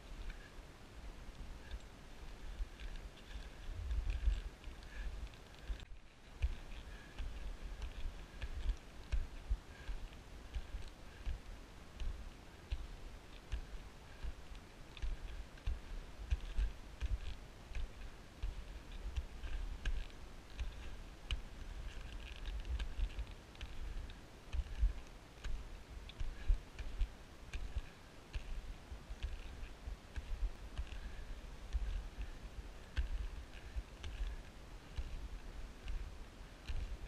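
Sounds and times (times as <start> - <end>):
light clicks and ticks: 0.0 - 0.6, 1.2 - 37.0.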